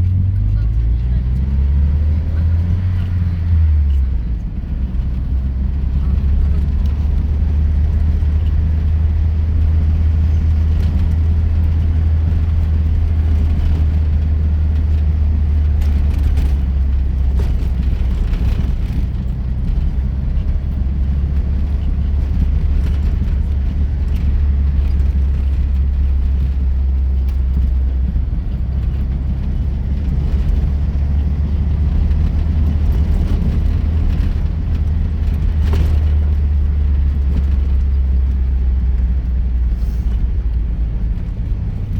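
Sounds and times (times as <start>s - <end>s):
car rumbling over rough ground: 0.0s - 41.9s.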